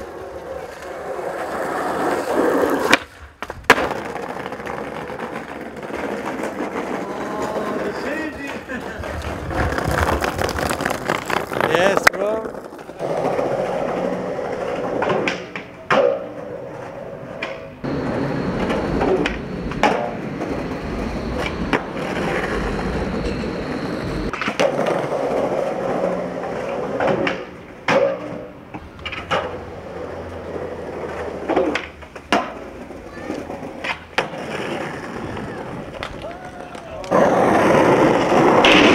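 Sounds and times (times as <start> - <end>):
skateboard clacking on ground: 0.0 - 38.9
skateboard wheels rolling on pavement: 0.0 - 38.9.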